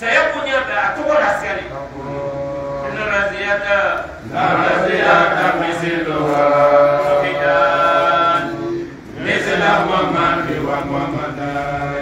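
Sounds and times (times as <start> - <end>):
man chanting: 0.0 - 12.0
steady low hum: 0.0 - 12.0.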